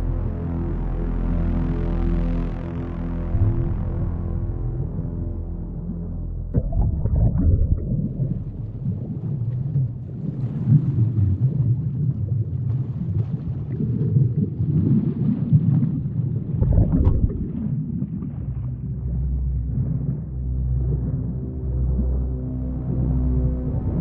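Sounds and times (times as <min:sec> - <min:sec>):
underwater rumble: 0:00.0 - 0:24.0.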